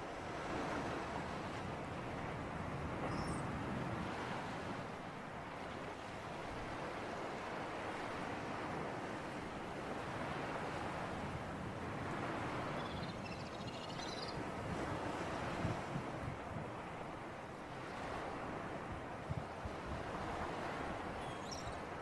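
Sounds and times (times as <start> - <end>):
sea surf: 0.0 - 22.0.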